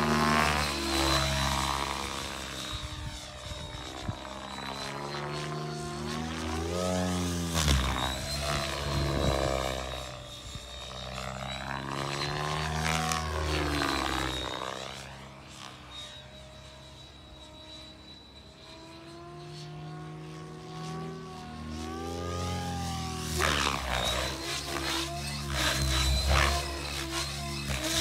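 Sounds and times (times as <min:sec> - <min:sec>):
rc helicopter rotor buzz: 0:00.0 - 0:28.0
steady high whine: 0:00.0 - 0:28.0.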